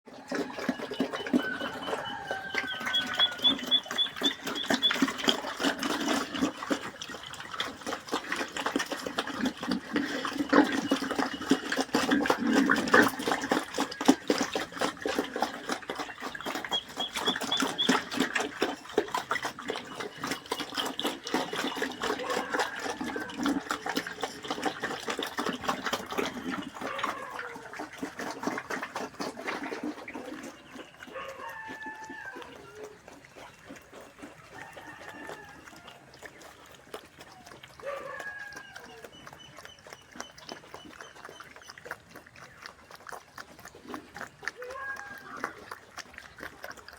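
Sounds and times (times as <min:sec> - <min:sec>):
pigs grunting: 0:00.1 - 0:46.9.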